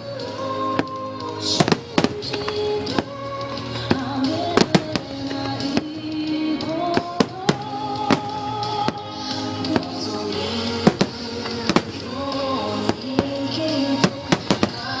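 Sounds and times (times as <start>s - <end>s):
music with held melody notes: 0.0s - 15.0s
fireworks bursting: 0.4s - 15.0s.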